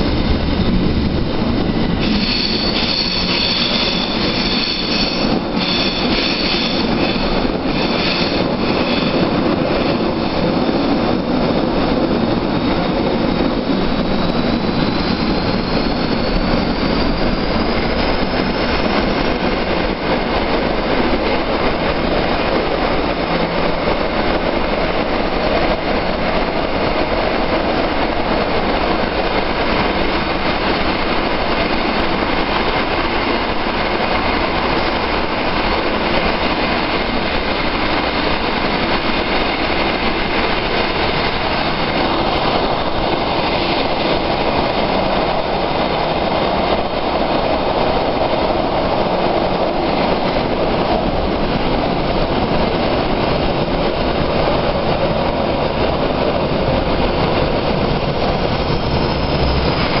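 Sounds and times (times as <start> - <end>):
air rushing in tunnel: 0.0 - 60.0
train wheels rumbling on rails: 0.0 - 60.0.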